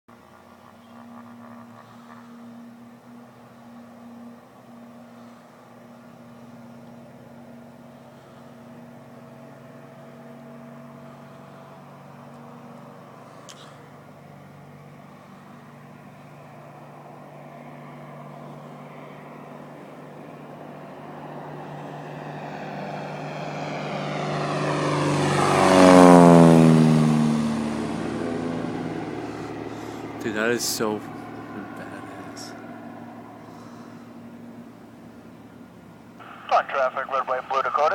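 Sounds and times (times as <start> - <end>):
propeller plane flying by: 0.1 - 37.9.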